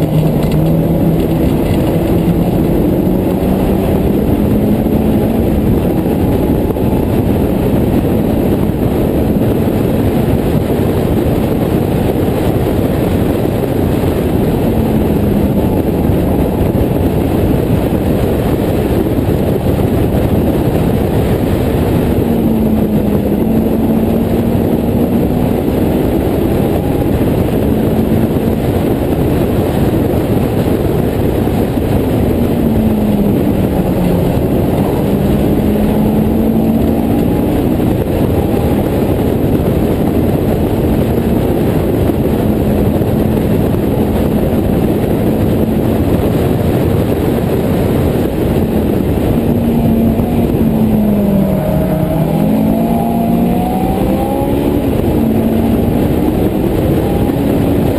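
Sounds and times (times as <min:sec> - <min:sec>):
race car engine: 0:00.0 - 0:57.9
road noise: 0:00.0 - 0:57.9
wind rushing: 0:00.0 - 0:57.9.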